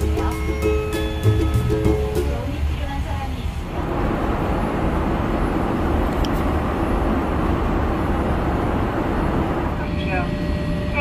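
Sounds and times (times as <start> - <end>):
airliner cabin noise: 1.9 - 11.0.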